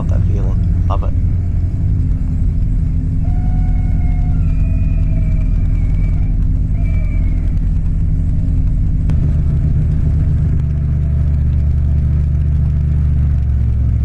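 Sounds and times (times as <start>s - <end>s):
ultralight aircraft engine running: 0.0s - 14.0s.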